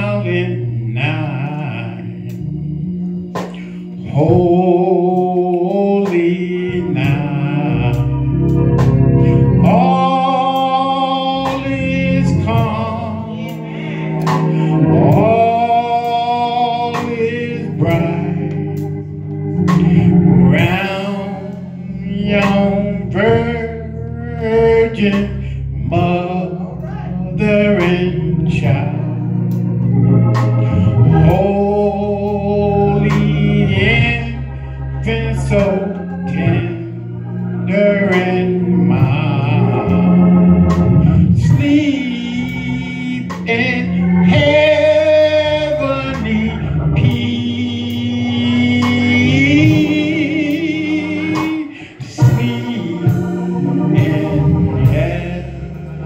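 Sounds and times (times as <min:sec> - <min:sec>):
men's choir singing gospel: 0:00.0 - 0:56.0
organ accompaniment: 0:00.0 - 0:56.0.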